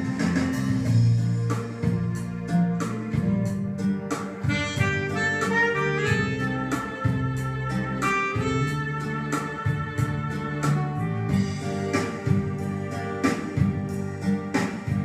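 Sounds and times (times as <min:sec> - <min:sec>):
instrumental music with steady beat: 0:00.0 - 0:15.0.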